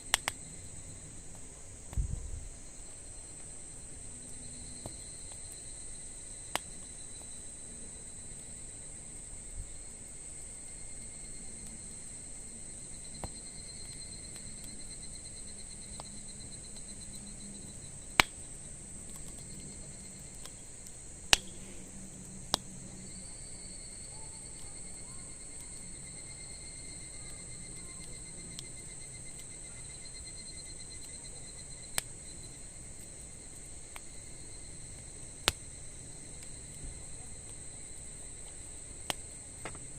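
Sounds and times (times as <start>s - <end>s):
campfire crackling pops: 0.0s - 39.9s
insects trilling: 0.0s - 39.9s.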